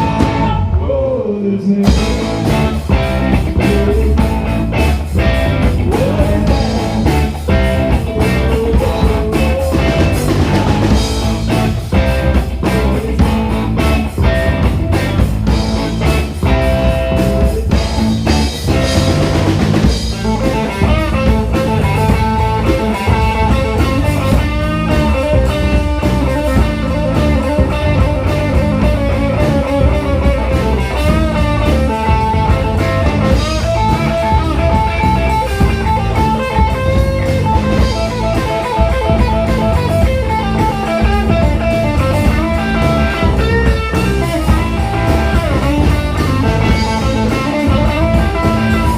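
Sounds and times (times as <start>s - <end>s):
drum kit: 0.0s - 1.2s, 1.8s - 48.9s
electric guitar lines: 0.0s - 48.9s
live rock band playing: 0.0s - 48.9s.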